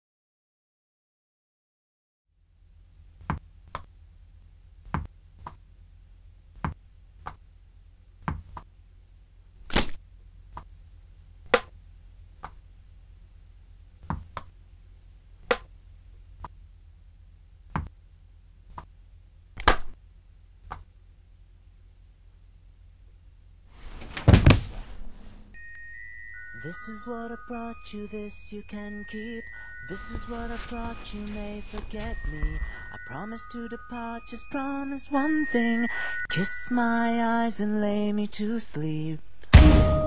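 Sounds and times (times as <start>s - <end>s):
steady low hum: 2.4s - 40.0s.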